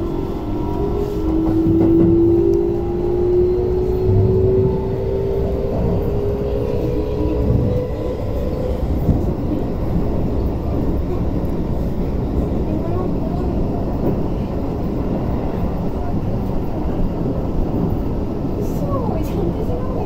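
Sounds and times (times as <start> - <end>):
wheels rumbling on rails: 0.0 - 20.0.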